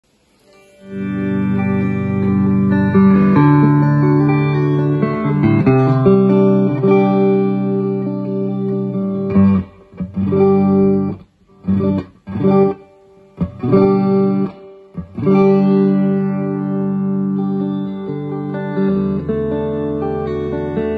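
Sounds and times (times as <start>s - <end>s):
clean electric guitar chords: 0.4s - 20.9s.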